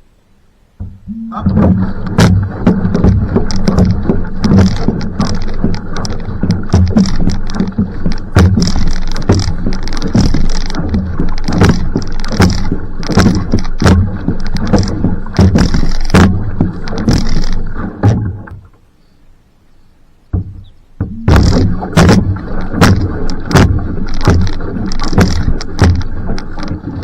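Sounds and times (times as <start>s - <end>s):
paddle strokes splashing: 0.0s - 18.9s, 20.1s - 27.0s
rush of water: 0.0s - 27.0s.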